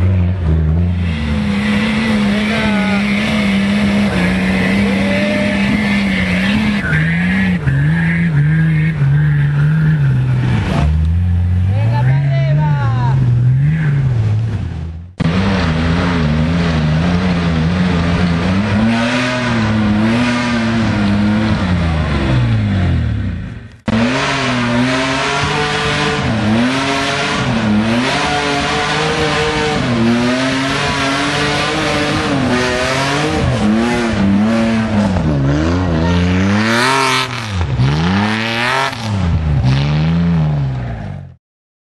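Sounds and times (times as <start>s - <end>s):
off-road engine revving hard: 0.0s - 41.3s.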